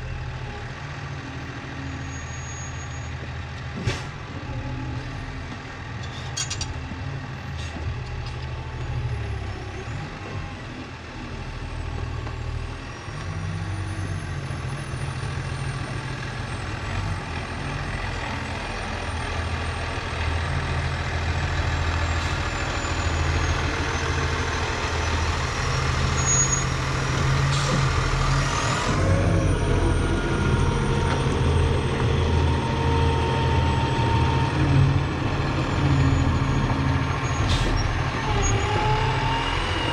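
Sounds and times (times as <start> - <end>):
diesel engine revving: 3.3 - 39.9.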